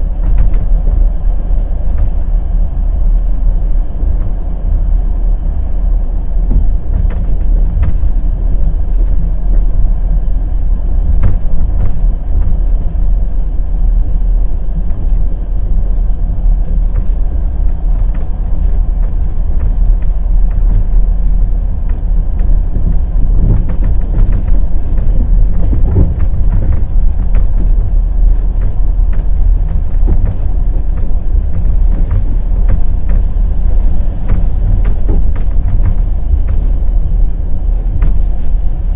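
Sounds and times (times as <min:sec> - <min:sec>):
low rumble of running train: 0:00.0 - 0:38.9.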